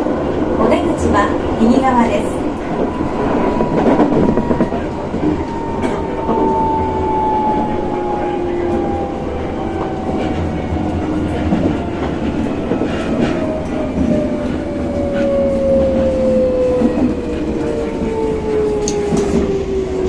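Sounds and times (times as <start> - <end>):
train wheels rumbling: 0.0 - 20.0
rail joint clicks: 0.7 - 20.0
train motor whine: 2.8 - 20.0.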